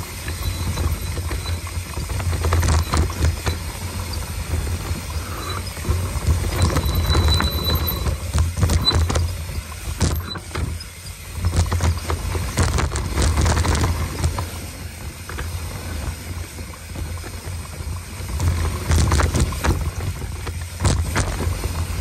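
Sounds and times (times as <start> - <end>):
bike rattling and knocking: 0.0 - 22.0
tyres rolling on dirt: 0.0 - 22.0.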